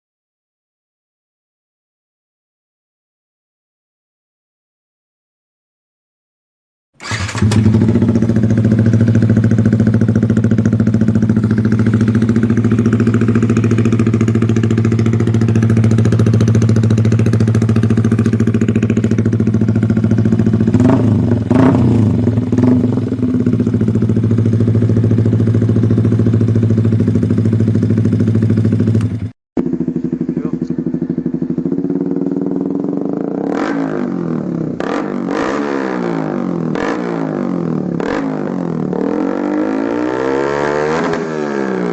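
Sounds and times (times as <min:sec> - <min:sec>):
motorcycle engine idling and revving: 0:07.0 - 0:41.9.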